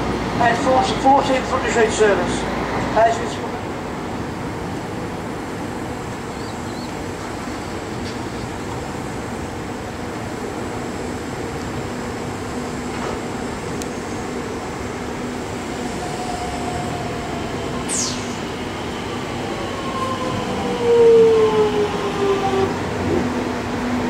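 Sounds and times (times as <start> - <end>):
electric train pulling in: 0.0 - 24.0.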